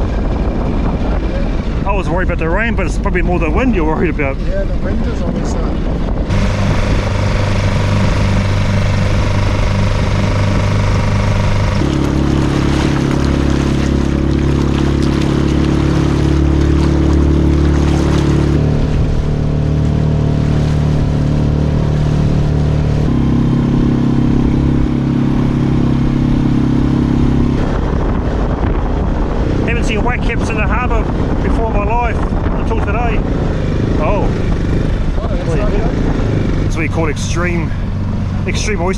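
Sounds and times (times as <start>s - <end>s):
outboard motor droning: 0.0s - 38.9s
water rushing: 0.0s - 38.9s.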